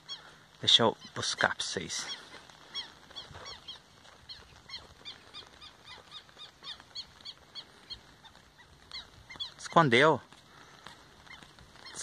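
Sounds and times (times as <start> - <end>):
small bird peeping: 0.0 - 12.0.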